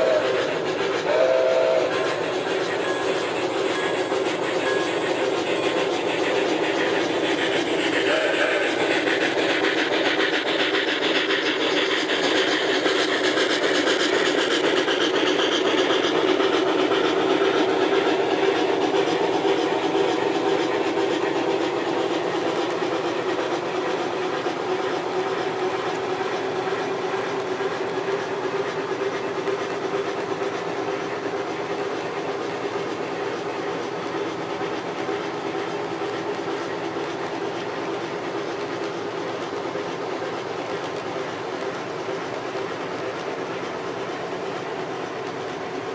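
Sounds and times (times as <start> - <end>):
model train running: 0.0 - 45.9
steam hiss: 0.0 - 45.9.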